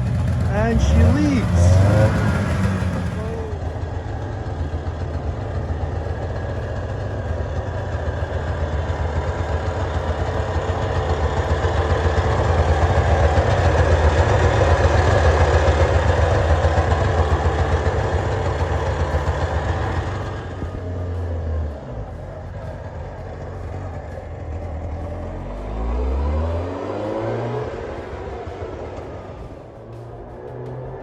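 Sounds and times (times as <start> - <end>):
small two-stroke engine idling: 0.0 - 26.2.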